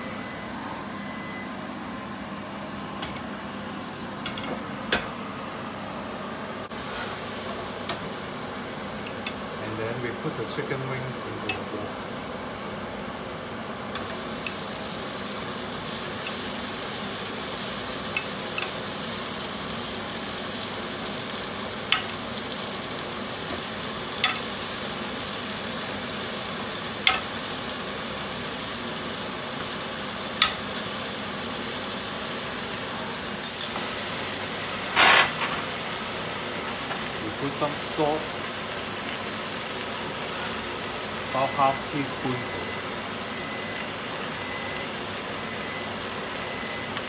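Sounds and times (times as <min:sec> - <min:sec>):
food sizzling in a wok: 0:02.0 - 0:47.0.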